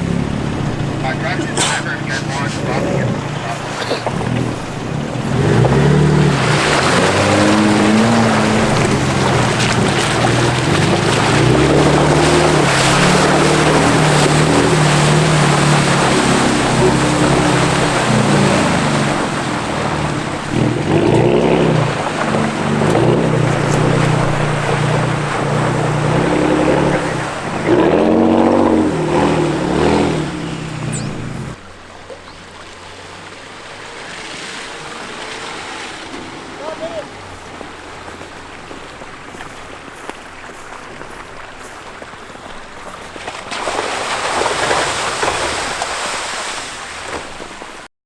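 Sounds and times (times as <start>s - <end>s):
vehicle engine: 0.0s - 45.7s
tyre and road noise: 0.0s - 47.9s.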